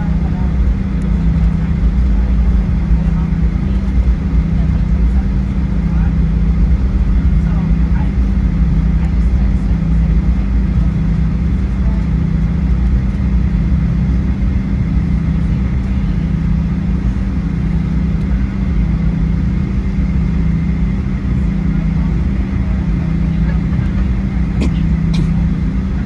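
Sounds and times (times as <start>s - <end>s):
jet engine drone in cabin: 0.0s - 26.0s.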